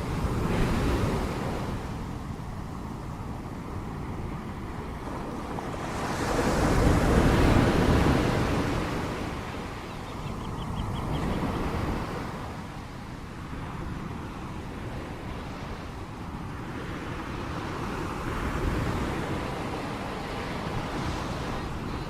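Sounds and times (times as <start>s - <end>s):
ocean waves crashing on shore: 0.0s - 22.0s.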